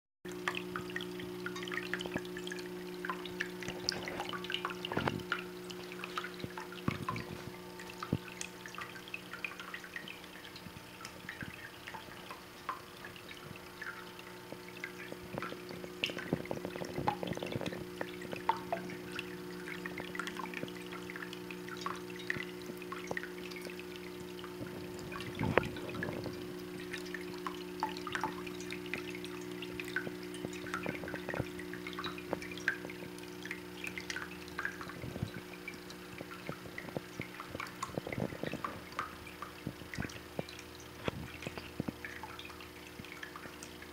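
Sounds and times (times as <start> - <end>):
water trickling and dripping: 0.3 - 43.9.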